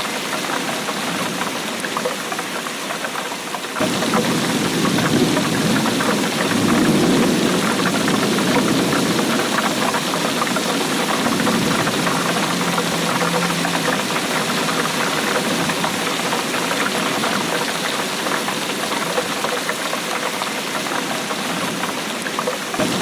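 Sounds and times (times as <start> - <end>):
heavy rain patter: 0.0 - 23.0.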